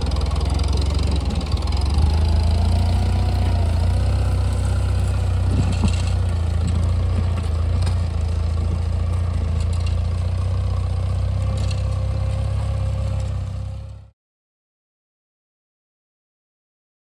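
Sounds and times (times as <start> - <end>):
engine clatter: 0.0 - 14.1
engine humming low: 0.0 - 14.1.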